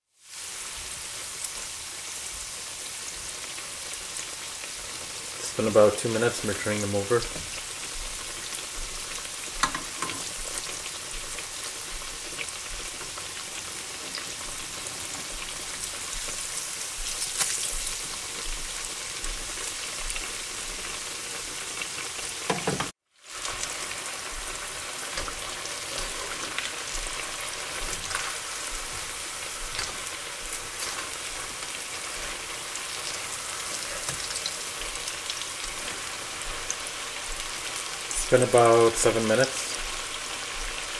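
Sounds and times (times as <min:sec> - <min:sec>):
deep-frying sizzle: 0:00.0 - 0:40.9.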